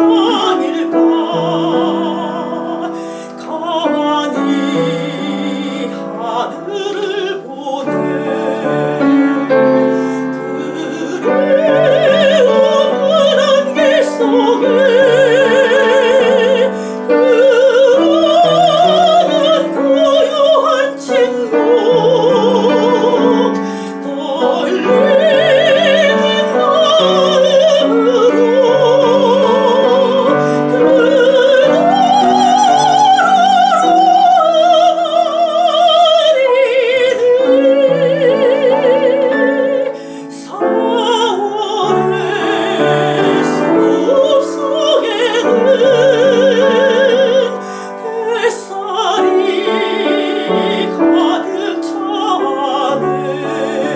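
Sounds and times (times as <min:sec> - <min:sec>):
piano accompaniment: 0:00.0 - 0:53.9
soprano singing classical song: 0:00.0 - 0:53.9.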